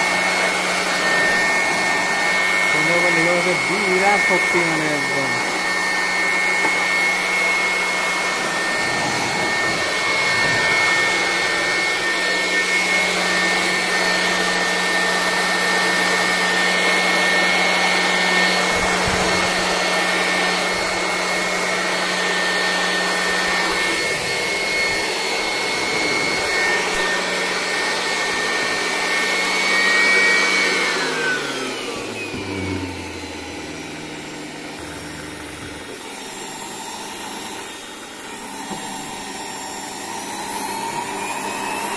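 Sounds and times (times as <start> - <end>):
electric air blower whining: 0.0 - 41.9.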